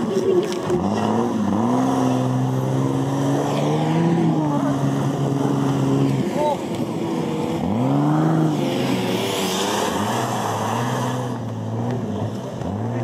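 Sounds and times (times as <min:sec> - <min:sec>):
engine revving hard: 0:00.6 - 0:13.0.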